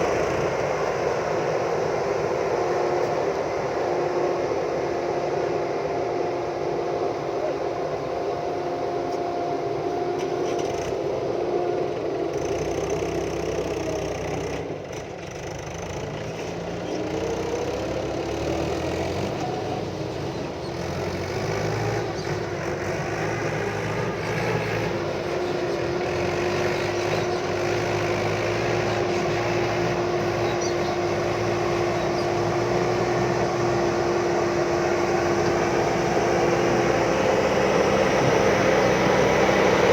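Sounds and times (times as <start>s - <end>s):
diesel engine whining: 0.0s - 39.9s.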